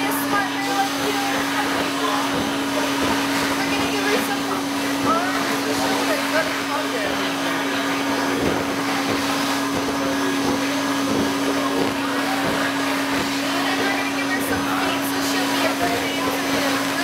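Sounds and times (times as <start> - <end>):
stuffing machine blower humming: 0.0 - 17.0.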